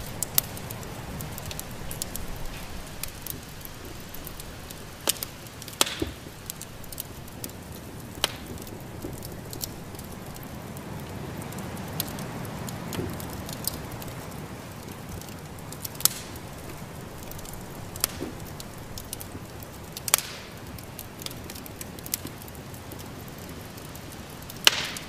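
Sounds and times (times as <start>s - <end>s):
sharp fire pops: 0.0s - 25.0s
wood fire crackling: 0.0s - 25.0s.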